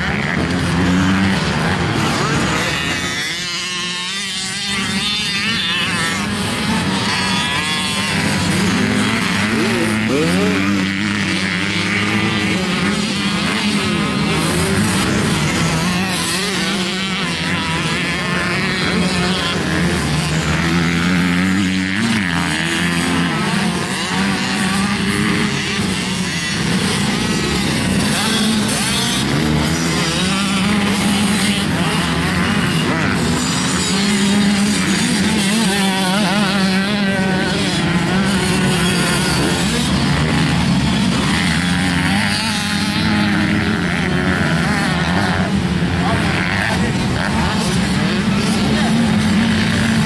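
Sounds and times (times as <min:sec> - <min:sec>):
motocross bikes revving: 0:00.0 - 0:50.0.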